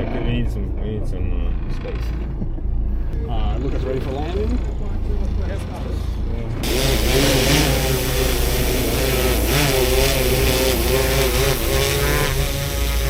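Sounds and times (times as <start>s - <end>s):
drone propellers whining: 0.0s - 13.0s
steady low rumble: 0.0s - 13.0s.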